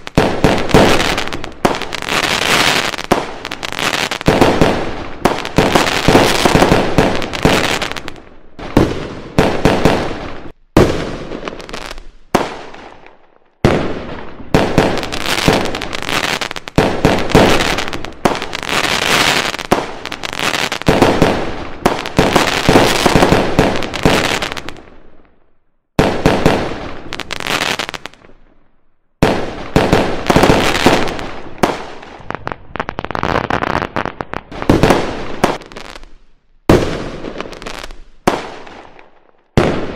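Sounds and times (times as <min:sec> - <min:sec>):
fireworks bangs and crackling: 0:00.0 - 0:28.6, 0:29.2 - 0:39.9.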